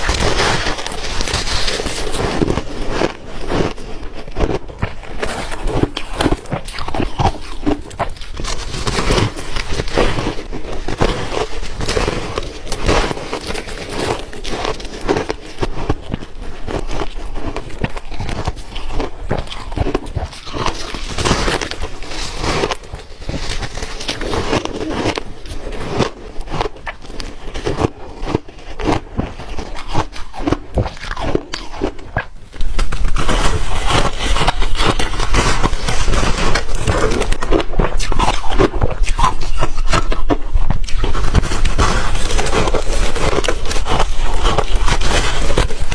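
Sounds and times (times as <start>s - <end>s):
ice crunching being chewed: 0.0s - 45.9s.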